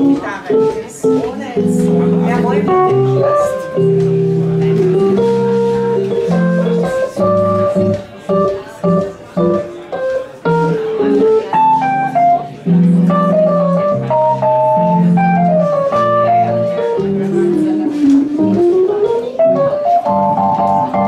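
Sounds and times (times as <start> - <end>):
swing jazz combo playing: 0.0 - 21.0.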